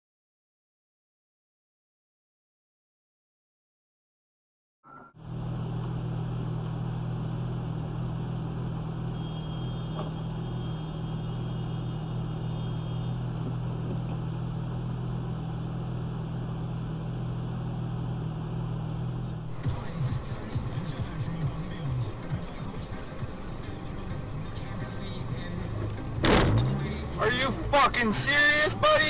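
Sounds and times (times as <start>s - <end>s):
road and engine noise inside car: 5.2s - 29.0s.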